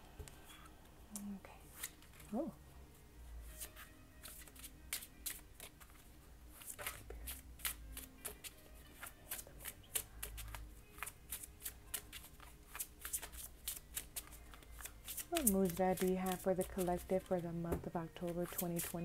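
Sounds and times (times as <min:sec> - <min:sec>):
cards being shuffled by hand: 0:03.4 - 0:19.0.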